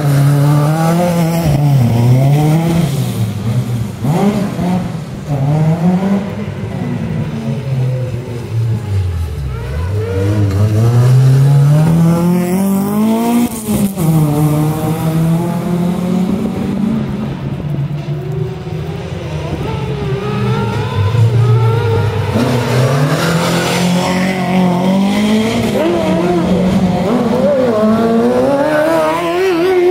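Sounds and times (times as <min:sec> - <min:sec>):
buggy engine revving hard: 0:00.0 - 0:07.0, 0:09.0 - 0:17.2, 0:19.5 - 0:29.9
rally car engines at full throttle: 0:00.0 - 0:29.9.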